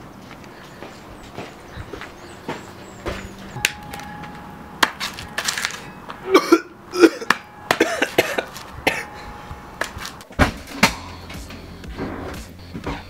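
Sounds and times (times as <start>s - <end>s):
footsteps on concrete: 0.0s - 6.2s, 7.2s - 12.0s.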